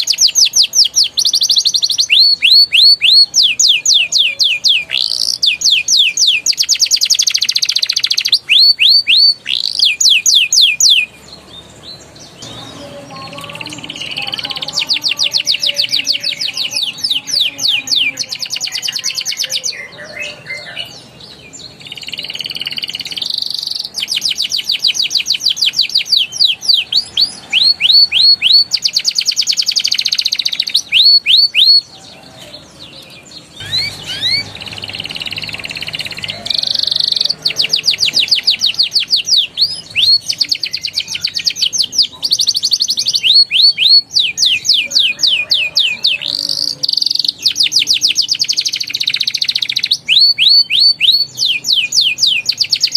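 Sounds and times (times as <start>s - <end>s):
canary singing: 0.0s - 52.9s.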